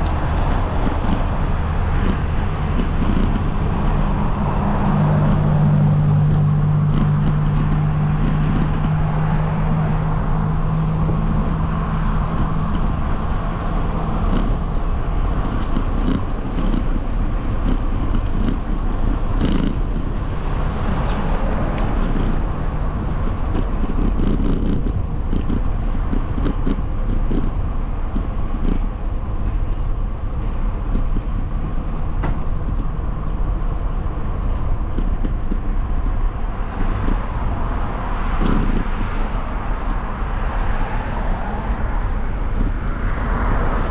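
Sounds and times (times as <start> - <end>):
engine hum: 0.0 - 43.9
road and wind noise: 0.0 - 43.9.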